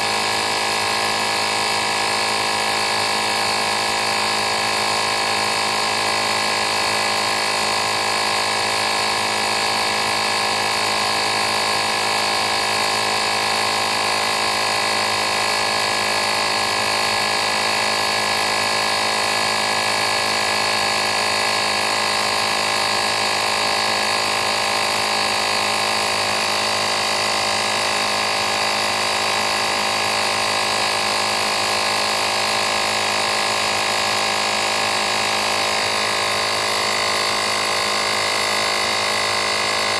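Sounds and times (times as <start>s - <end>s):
tire inflator compressor running: 0.0s - 39.9s.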